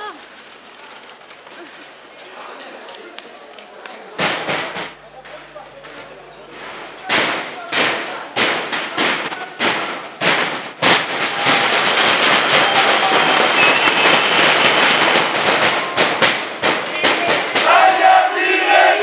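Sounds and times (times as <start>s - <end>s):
firecracker crackle: 0.0s - 3.4s, 4.1s - 17.9s
firecrackers banging: 0.0s - 19.0s.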